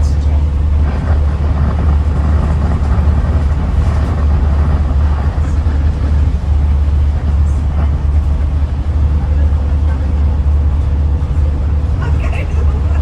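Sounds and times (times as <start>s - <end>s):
bus diesel engine droning: 0.0s - 13.0s
road and cabin rumble: 0.0s - 13.0s.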